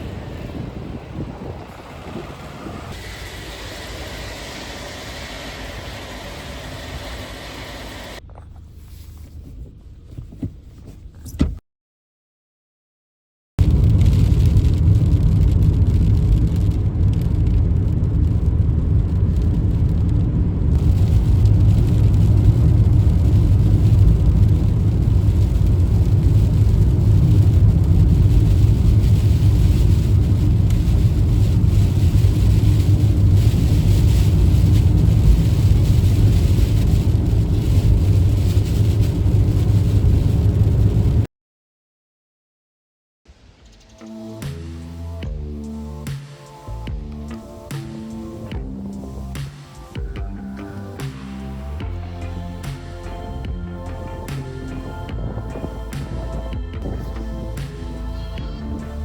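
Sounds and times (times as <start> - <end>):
car road and engine rumble: 0.0 - 11.6, 13.6 - 41.3, 46.7 - 59.0.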